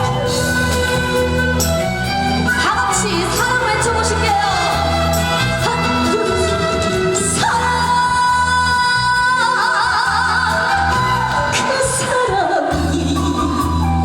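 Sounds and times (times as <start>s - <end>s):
woman singing: 2.5s - 14.0s.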